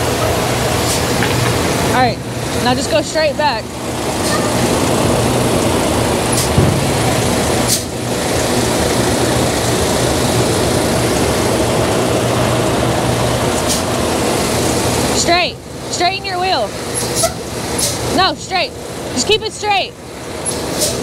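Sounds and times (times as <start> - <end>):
diesel truck engines idling: 0.0 - 21.0.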